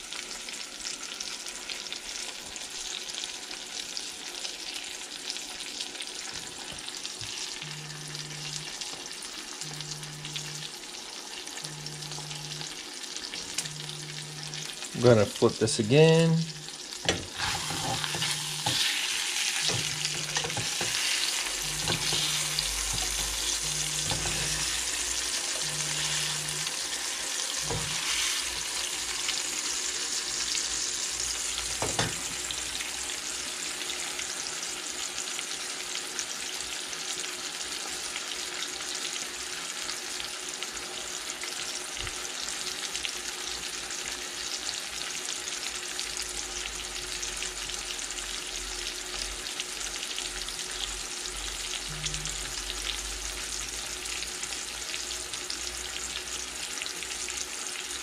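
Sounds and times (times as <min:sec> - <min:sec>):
steak sizzling in a skillet: 0:00.0 - 0:58.0.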